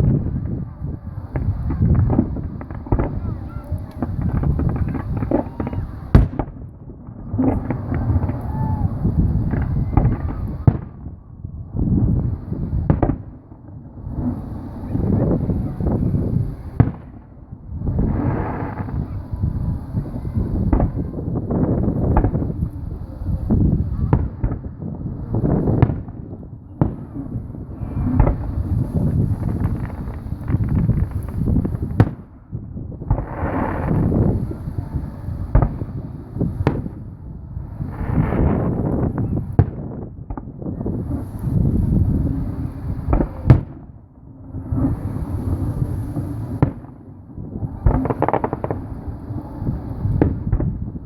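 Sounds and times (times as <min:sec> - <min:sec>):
loud sharp firework bang: 0:00.0 - 0:11.1, 0:12.6 - 0:13.4, 0:14.2 - 0:17.2, 0:18.0 - 0:32.3, 0:33.0 - 0:37.1, 0:37.8 - 0:43.9, 0:44.7 - 0:47.0, 0:47.6 - 0:50.8
fireworks booming and crackling: 0:00.0 - 0:51.0
wind buffeting microphone: 0:00.0 - 0:51.0.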